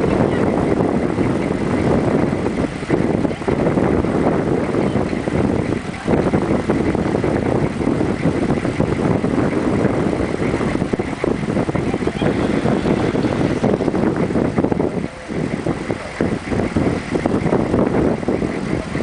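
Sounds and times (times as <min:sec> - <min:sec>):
river rushing: 0:00.0 - 0:19.0
wind buffeting microphone: 0:00.0 - 0:19.0.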